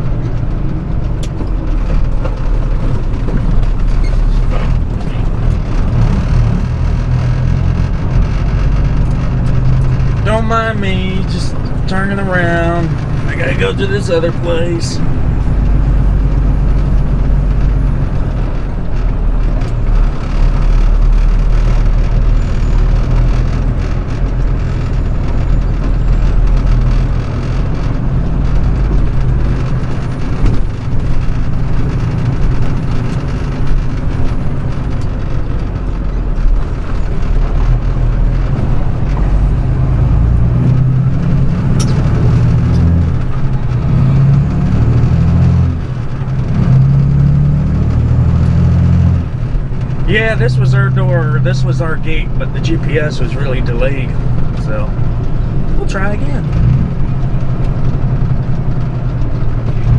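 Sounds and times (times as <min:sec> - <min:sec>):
truck diesel engine rumbling: 0:00.0 - 0:59.9.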